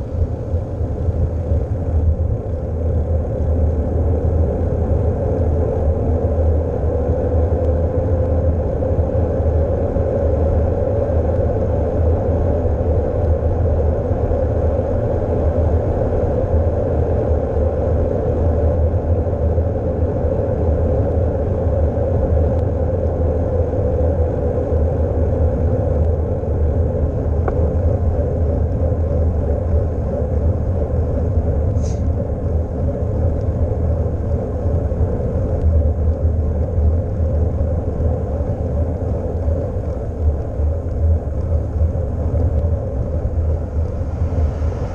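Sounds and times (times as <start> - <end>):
road noise hum: 0.0 - 44.9
wind buffeting microphone: 0.0 - 44.9.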